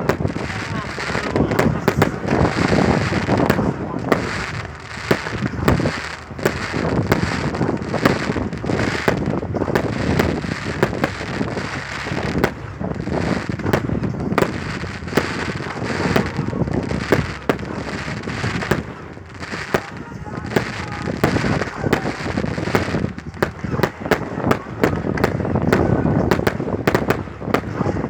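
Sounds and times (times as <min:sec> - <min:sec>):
fireworks bangs and crackles: 0:00.0 - 0:28.0
rumble of explosions: 0:00.0 - 0:28.0.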